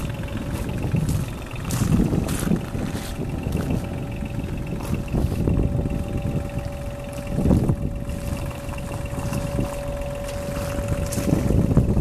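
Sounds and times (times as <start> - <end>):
excavator engine idling with whine: 0.0 - 12.0
wind buffeting microphone: 0.0 - 12.0.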